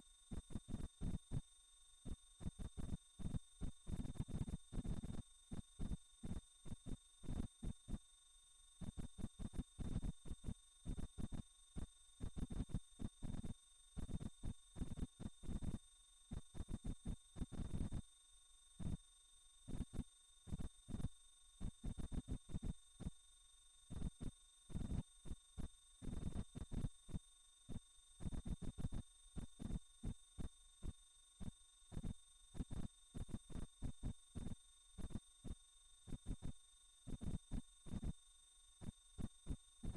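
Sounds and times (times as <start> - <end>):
high-pitched pulsing sine tone: 0.0 - 39.9.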